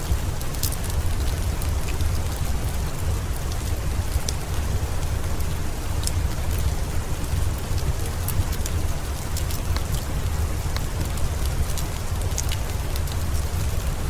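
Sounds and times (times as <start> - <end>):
steady rain hiss: 0.0 - 14.0
wood fire crackling and popping: 0.0 - 14.0.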